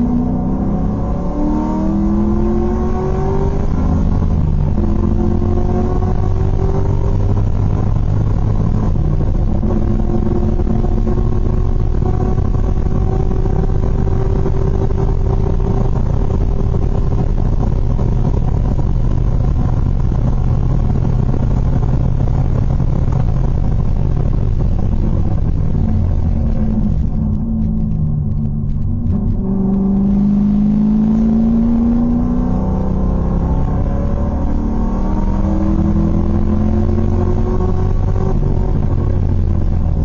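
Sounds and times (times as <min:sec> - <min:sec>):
race car engine at full throttle: 0:00.0 - 0:40.0.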